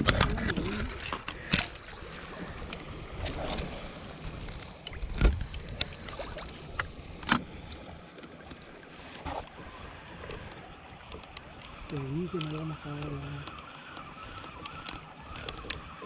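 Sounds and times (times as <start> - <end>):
water lapping against kayak hull: 0.0 - 16.0
wind: 0.0 - 16.0.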